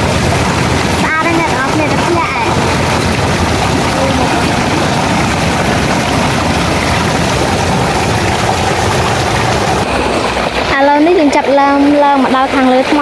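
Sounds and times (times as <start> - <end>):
water splashing between rocks: 0.0 - 13.0.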